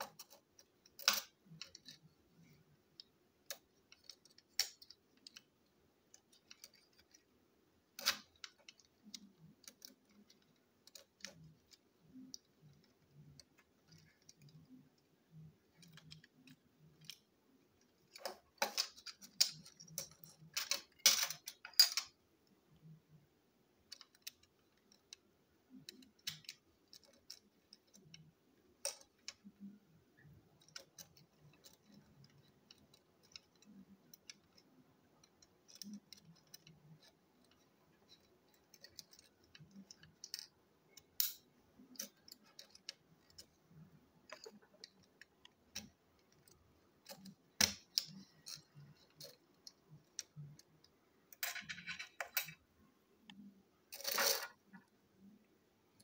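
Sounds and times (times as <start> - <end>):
plastic parts clicking: 0.0 - 7.3, 7.9 - 22.2, 23.8 - 52.6.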